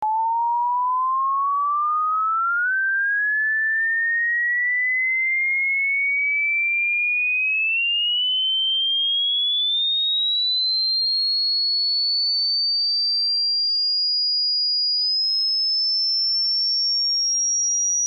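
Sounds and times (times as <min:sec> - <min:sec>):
sine tone sweeping upward: 0:00.0 - 0:11.4, 0:12.8 - 0:18.0.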